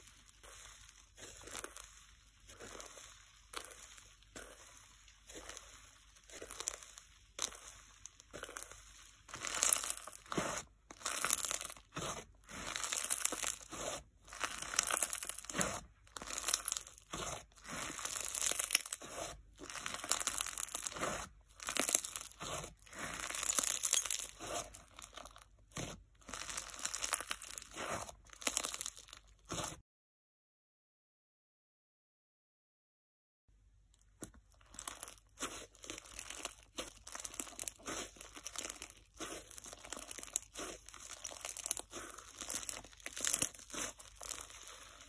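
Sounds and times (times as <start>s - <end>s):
slime crunching and crackling: 0.0s - 29.8s, 34.0s - 45.0s.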